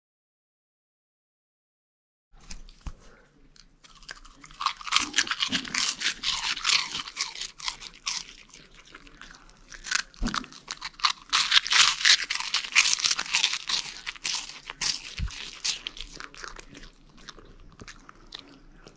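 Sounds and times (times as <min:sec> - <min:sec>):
puppy crunching cheese puffs: 0:02.4 - 0:18.9.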